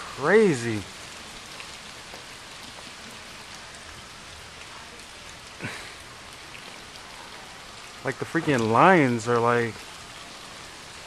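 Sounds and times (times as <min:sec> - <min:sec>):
sleet and rain falling: 0:00.0 - 0:11.0.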